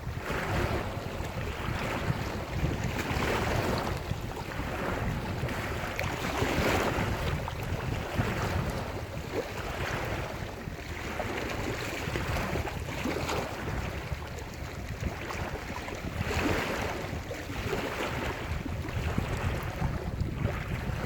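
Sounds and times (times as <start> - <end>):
surf washing onto shore: 0.0 - 21.0
wind rumble on microphone: 0.0 - 21.0.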